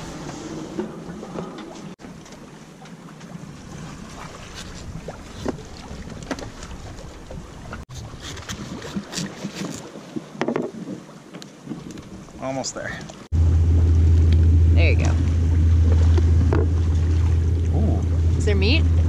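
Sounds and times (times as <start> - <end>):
sea washing along boat: 0.0 - 19.0
wind: 0.0 - 19.0.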